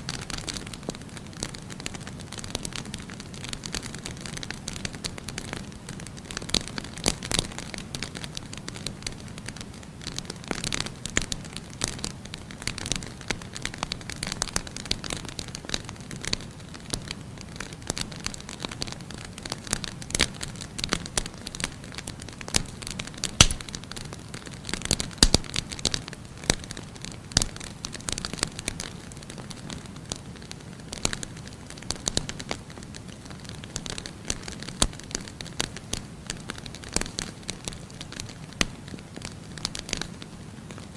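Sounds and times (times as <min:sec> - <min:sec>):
firewood crackling and popping: 0:00.0 - 0:40.9
low rumble of flames: 0:00.1 - 0:40.9.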